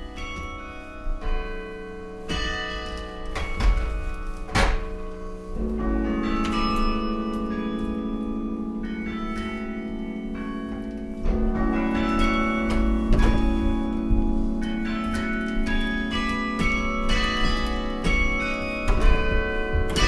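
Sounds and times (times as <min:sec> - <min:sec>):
carillon bells playing: 0:00.0 - 0:20.0.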